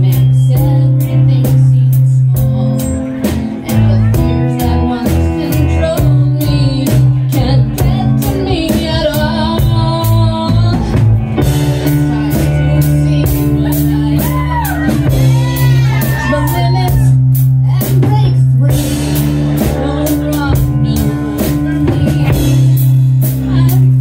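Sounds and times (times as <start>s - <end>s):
live band playing: 0.0s - 24.0s
woman singing into a microphone: 0.0s - 24.0s.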